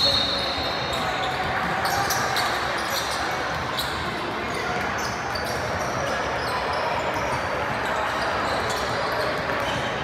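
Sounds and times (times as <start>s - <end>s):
murmur of voices: 0.0s - 10.0s
sneakers squeaking: 0.0s - 10.0s.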